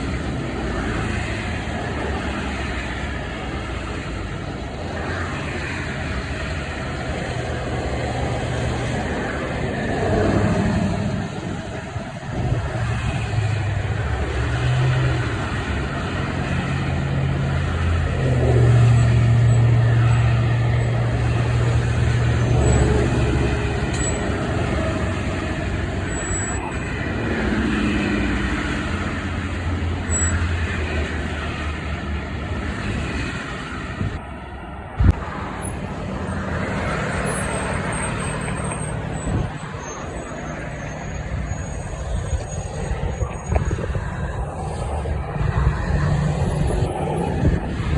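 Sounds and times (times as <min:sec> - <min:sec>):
street traffic: 0:00.0 - 0:47.9
truck engine low drone: 0:00.0 - 0:47.9.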